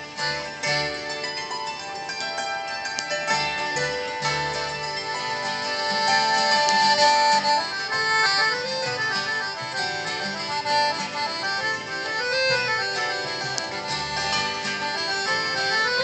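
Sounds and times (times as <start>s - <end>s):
strummed acoustic guitar: 0.0s - 1.9s, 2.8s - 16.0s
accordion melody: 0.0s - 16.0s.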